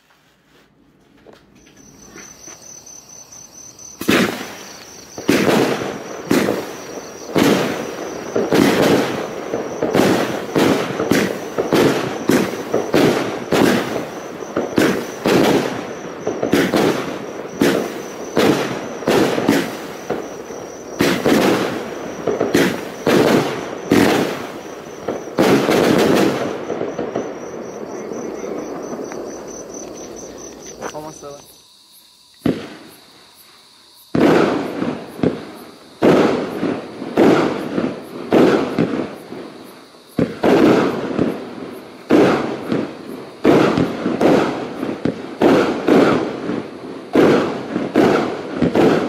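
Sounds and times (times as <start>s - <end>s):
firework bangs: 1.3s - 31.4s, 32.4s - 33.1s, 34.1s - 49.0s.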